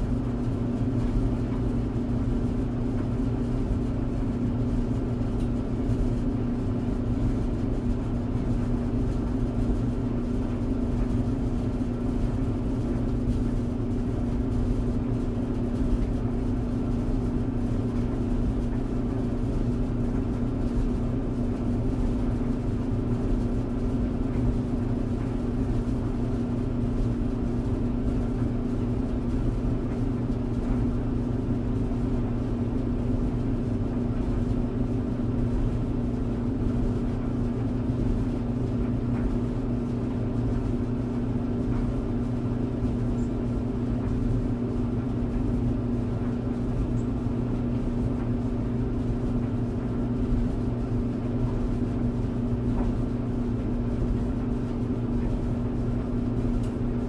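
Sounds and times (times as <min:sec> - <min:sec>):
tumble dryer running: 0:00.0 - 0:57.0.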